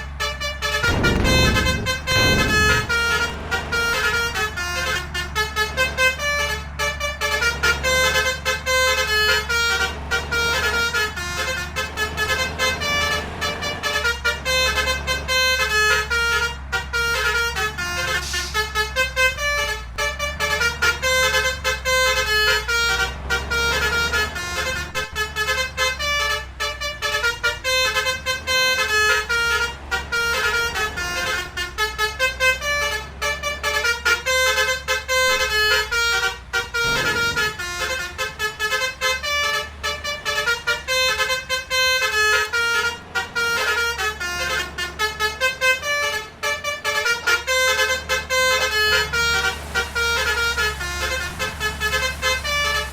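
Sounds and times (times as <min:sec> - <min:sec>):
engine rumble: 0:00.0 - 0:52.9
multi-tone musical vehicle horn: 0:00.0 - 0:52.9.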